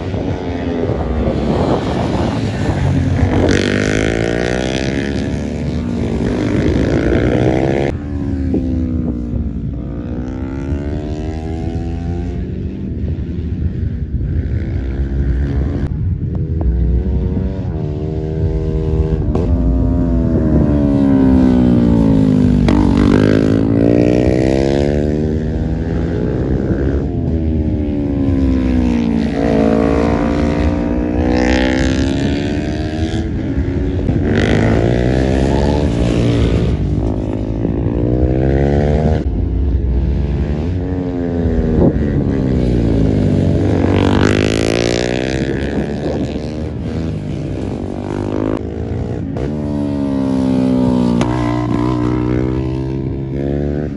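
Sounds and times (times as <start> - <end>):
racing motorcycles passing at speed: 0.0 - 53.9.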